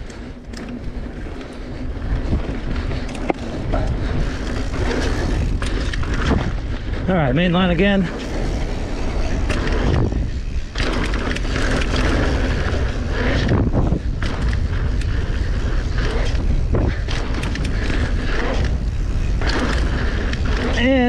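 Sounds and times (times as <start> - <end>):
bike rattling and knocking: 0.0 - 21.0
bike tyres rolling and skidding on dirt: 0.0 - 21.0
steady low rumble: 0.0 - 21.0.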